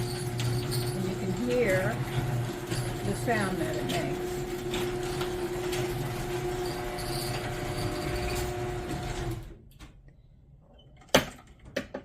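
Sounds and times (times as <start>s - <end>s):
garage door opener humming: 0.0s - 10.0s.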